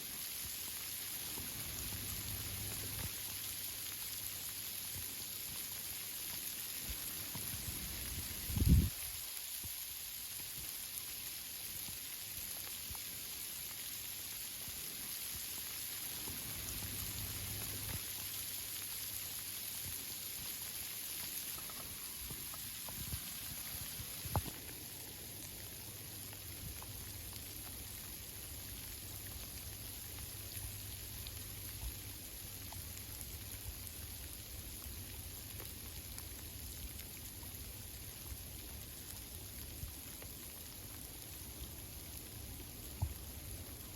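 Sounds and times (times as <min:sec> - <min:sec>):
rain on leaves: 0:00.0 - 0:43.9.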